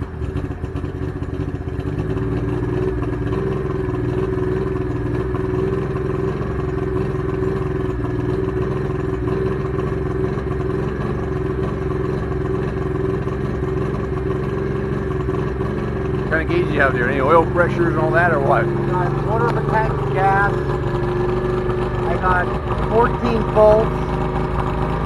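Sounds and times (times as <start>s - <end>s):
outboard motor idling: 0.0s - 25.0s.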